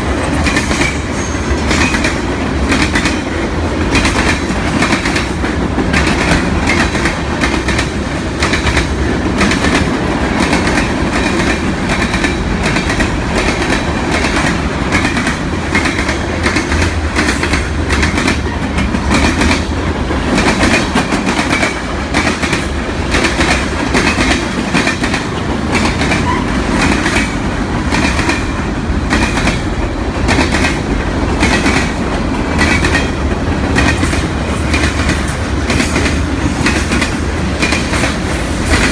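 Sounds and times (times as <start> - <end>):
freight train rumbling past: 0.0 - 38.9
wheels clickety-clack on rail joints: 0.0 - 38.9.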